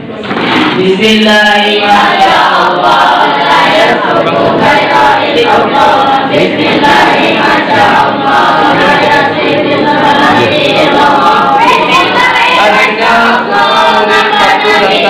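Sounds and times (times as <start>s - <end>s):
group singing in unison: 0.7s - 15.0s.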